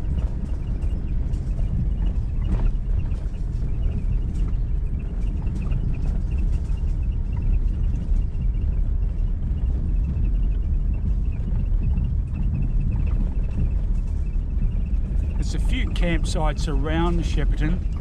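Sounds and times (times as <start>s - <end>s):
vehicle driving on dirt track: 0.0s - 18.0s.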